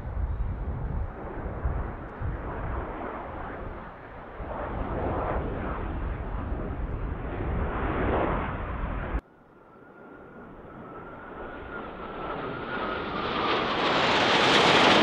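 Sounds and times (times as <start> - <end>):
fighter jets flying overhead: 0.0 - 15.0.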